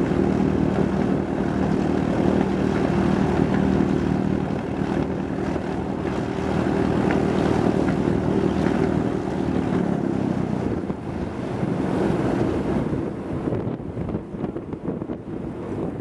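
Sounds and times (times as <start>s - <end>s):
propeller aircraft engine drone: 0.0s - 16.0s
wind noise on microphone: 0.0s - 16.0s.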